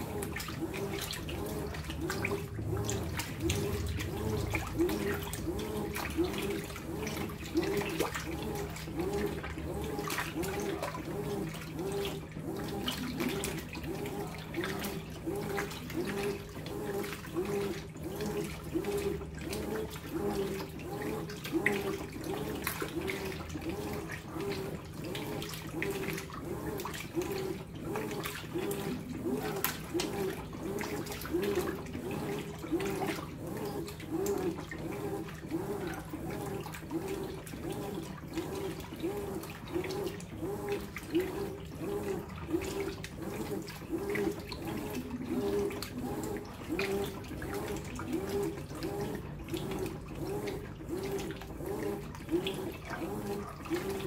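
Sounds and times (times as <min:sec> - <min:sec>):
washing machine motor humming: 0:00.0 - 0:54.0
water sloshing in drum: 0:00.0 - 0:54.0.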